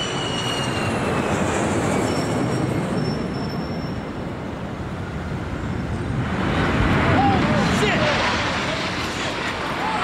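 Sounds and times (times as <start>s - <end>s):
jet airliner roaring overhead: 0.0s - 10.0s.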